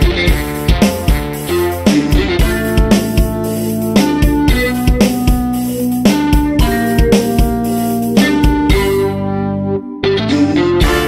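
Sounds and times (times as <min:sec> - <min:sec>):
steady drum beat: 0:00.0 - 0:09.1
held chords: 0:00.0 - 0:11.0.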